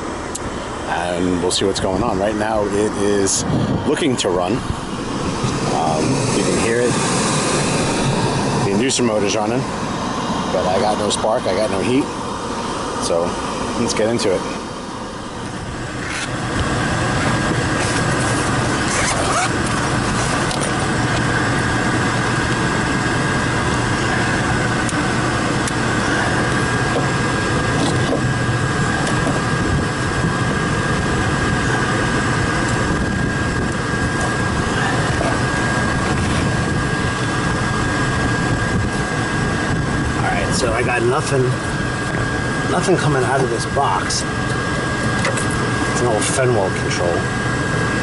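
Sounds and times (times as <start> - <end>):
motor hum with high whine: 0.0 - 48.0.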